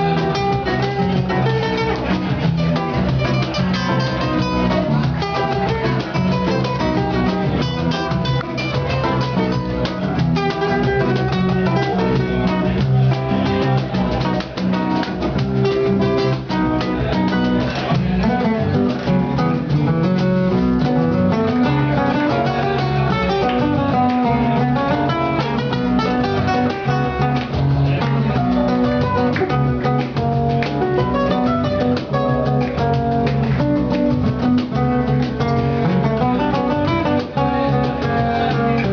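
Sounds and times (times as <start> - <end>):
acoustic guitar plucked and strummed: 0.0 - 38.9
bass line: 0.0 - 38.9.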